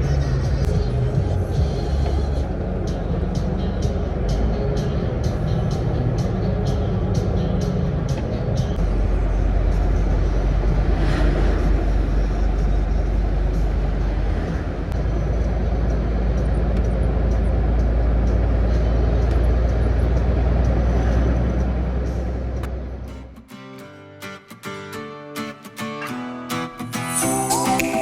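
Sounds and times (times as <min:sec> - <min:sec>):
truck diesel engine running: 0:00.0 - 0:23.4
road noise: 0:00.0 - 0:28.0.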